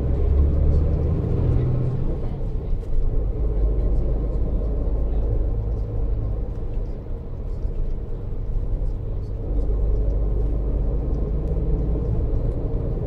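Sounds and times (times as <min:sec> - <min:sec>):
coach engine and road rumble: 0:00.0 - 0:13.0.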